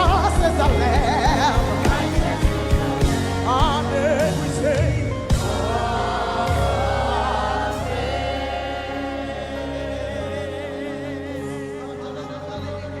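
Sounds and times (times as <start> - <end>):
gospel choir and band chord: 0.0 - 13.0.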